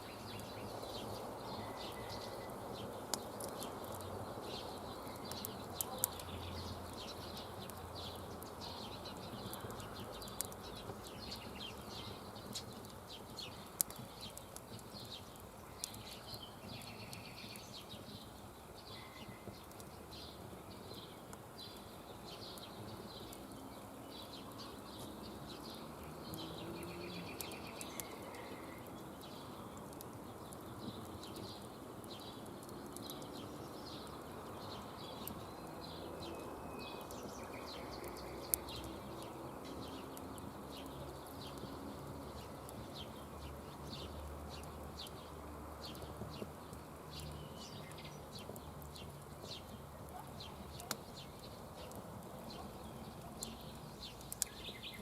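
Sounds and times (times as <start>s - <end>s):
outdoor background noise: 0.0s - 55.0s
songbirds chirping: 0.0s - 55.0s.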